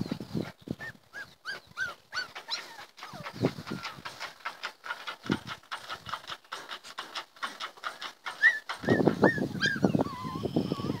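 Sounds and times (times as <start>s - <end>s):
puppies yipping and squeaking: 0.0s - 11.0s.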